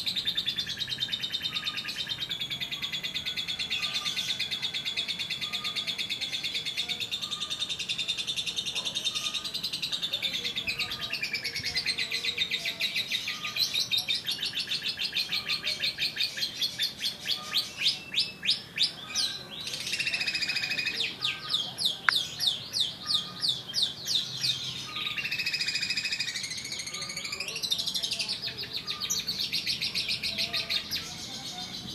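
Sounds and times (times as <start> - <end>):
bird chirping: 0.0 - 31.9.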